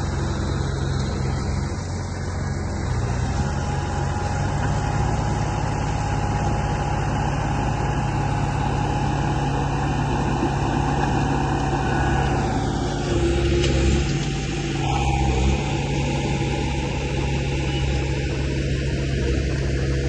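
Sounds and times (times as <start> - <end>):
model machine engine drone: 0.0 - 20.0
faint high whine: 3.4 - 20.0.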